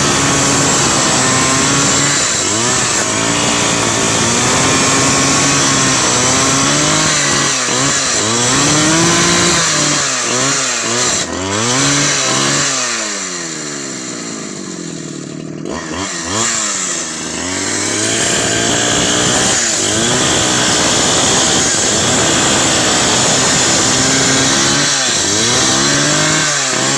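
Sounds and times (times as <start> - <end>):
chainsaw engine revving: 0.0 - 26.9.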